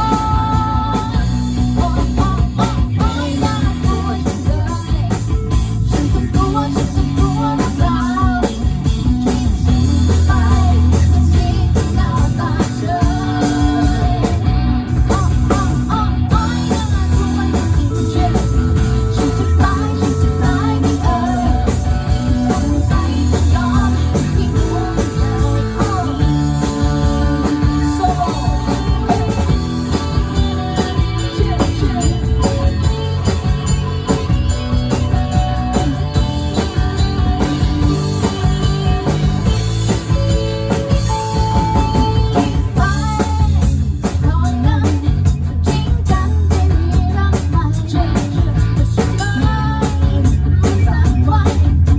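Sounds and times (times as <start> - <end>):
bass guitar: 0.0 - 51.9
drums: 0.0 - 51.9
electric guitar: 0.0 - 51.9
person singing: 0.0 - 51.9.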